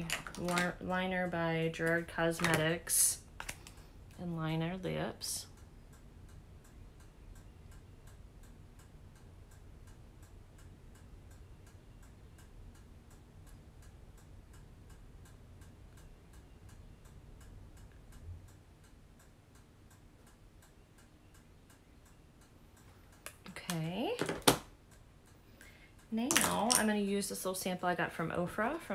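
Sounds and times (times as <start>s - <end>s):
low room hum: 0.0s - 28.9s.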